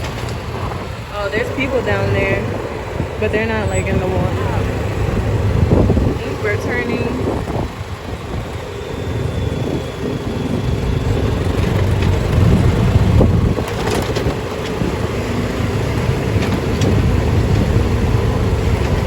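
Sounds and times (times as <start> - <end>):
golf cart rumbling on road: 0.0 - 19.0.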